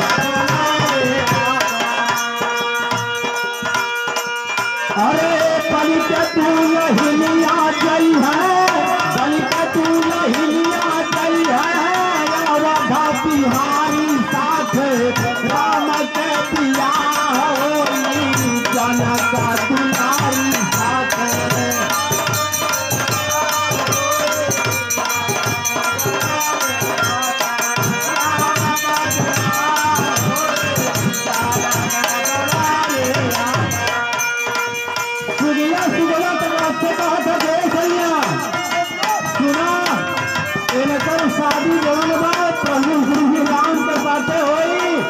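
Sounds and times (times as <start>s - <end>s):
man singing into a microphone: 0.0s - 45.0s.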